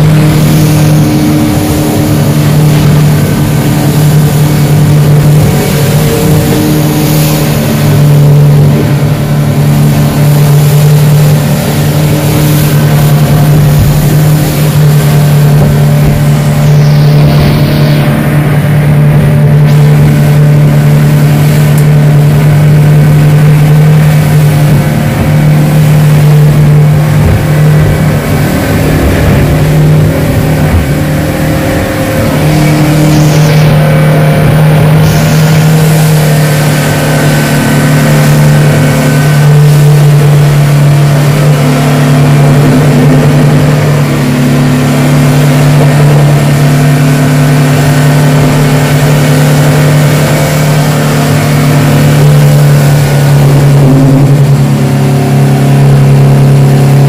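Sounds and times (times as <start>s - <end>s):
outboard motor running: 0.0s - 57.0s
water rushing and spray: 0.0s - 57.0s.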